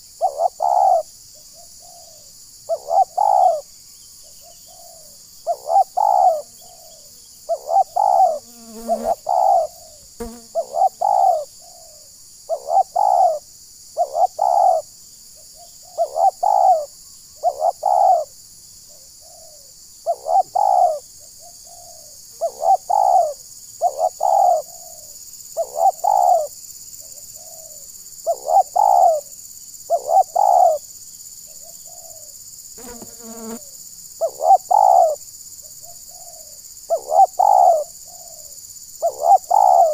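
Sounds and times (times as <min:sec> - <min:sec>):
dove cooing: 0:00.0 - 0:03.6, 0:04.3 - 0:13.4, 0:14.0 - 0:14.9, 0:15.6 - 0:18.3, 0:18.9 - 0:26.5, 0:27.1 - 0:29.3, 0:29.9 - 0:30.8, 0:31.5 - 0:32.3, 0:33.2 - 0:39.9.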